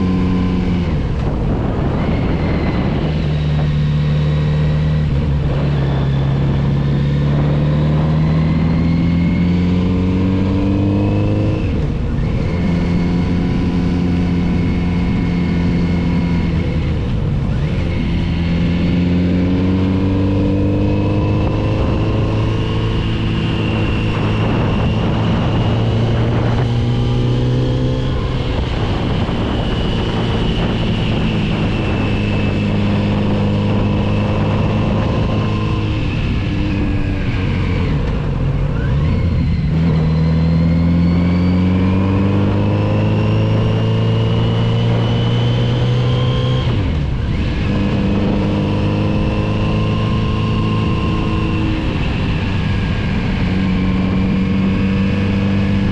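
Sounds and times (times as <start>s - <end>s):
motorcycle engine revving through gears: 0.0s - 55.9s
wind and road noise: 0.0s - 55.9s.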